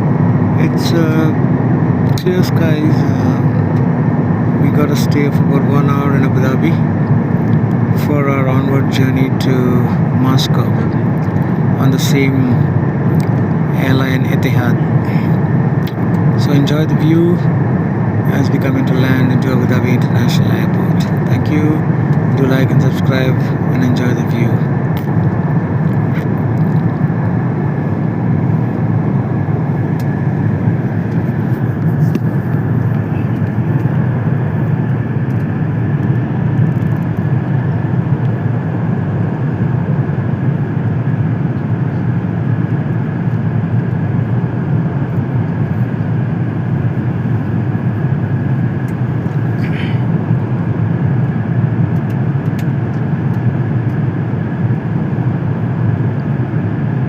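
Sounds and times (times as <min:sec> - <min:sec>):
aircraft cabin engine roar: 0:00.0 - 0:57.0.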